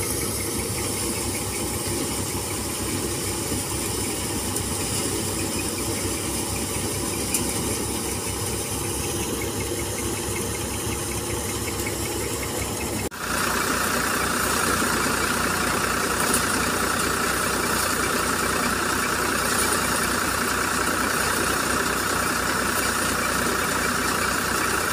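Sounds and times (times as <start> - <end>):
threshing machine running: 0.0 - 24.9
tractor engine: 0.0 - 24.9.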